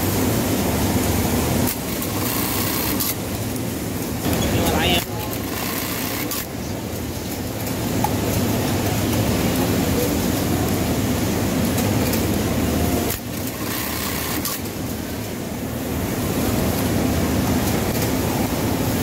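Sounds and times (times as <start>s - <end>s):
industrial sewing machines running: 0.0s - 19.0s.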